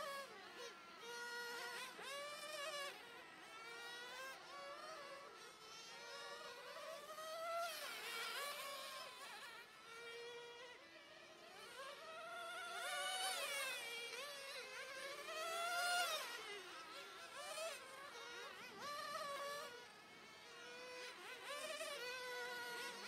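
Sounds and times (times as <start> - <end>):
rc car motors buzzing: 0.0 - 23.0.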